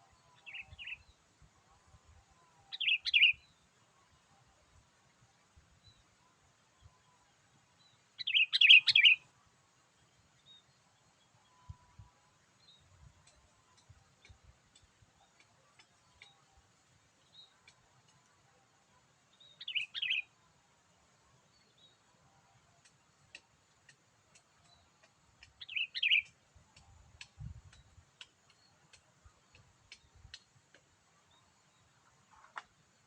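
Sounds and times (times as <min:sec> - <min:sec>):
faint scattered chirps and ticks: 0:00.0 - 0:33.0.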